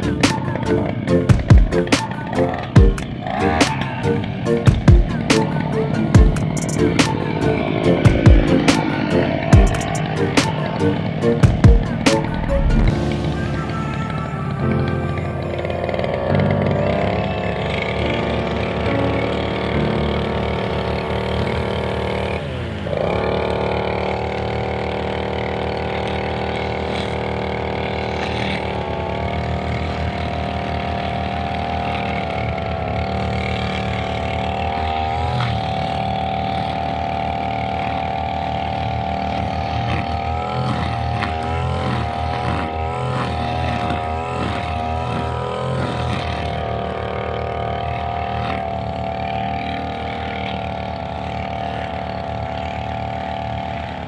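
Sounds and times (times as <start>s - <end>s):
brushcutter engine cutting grass: 0.0s - 54.0s.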